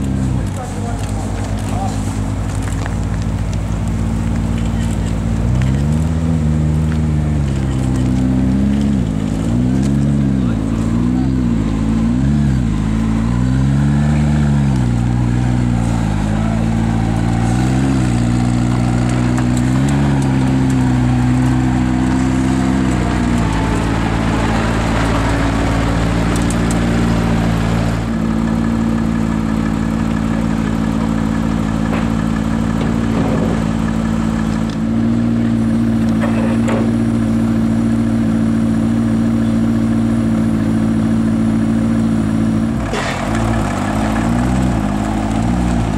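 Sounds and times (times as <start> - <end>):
car engine revving and idling: 0.0 - 45.9.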